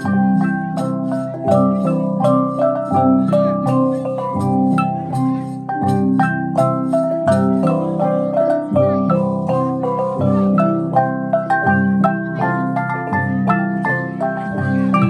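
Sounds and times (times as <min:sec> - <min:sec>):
gong ensemble playing: 0:00.0 - 0:15.0.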